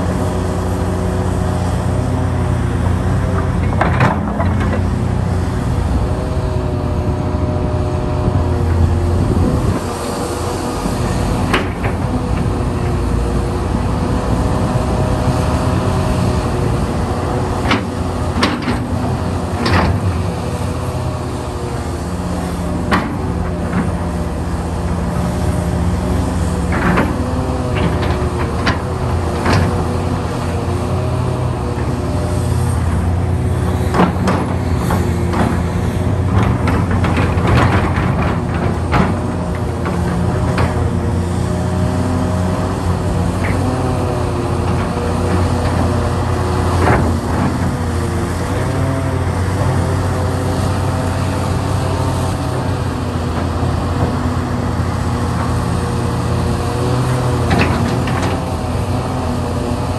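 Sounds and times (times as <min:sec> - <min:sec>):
excavator engine and hydraulic hum: 0:00.0 - 0:59.9.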